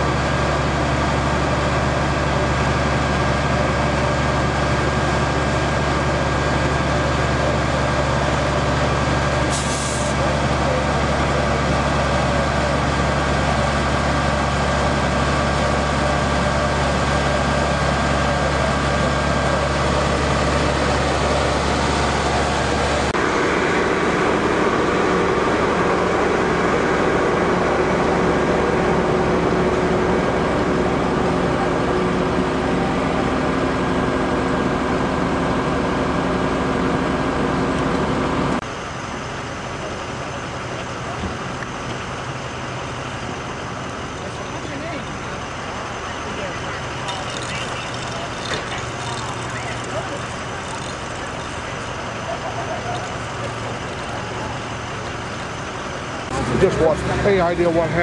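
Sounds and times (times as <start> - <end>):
emergency vehicle engines idling: 0.0 - 58.0.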